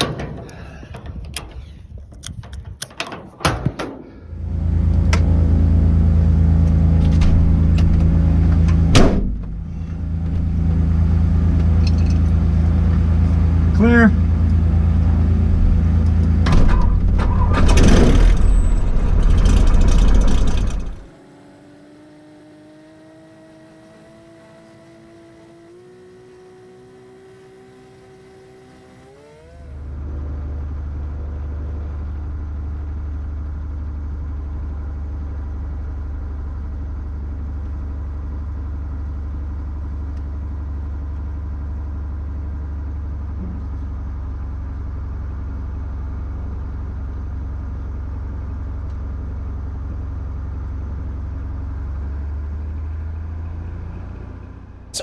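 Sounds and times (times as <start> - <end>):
low engine drone: 0.0 - 21.7, 25.4 - 55.0.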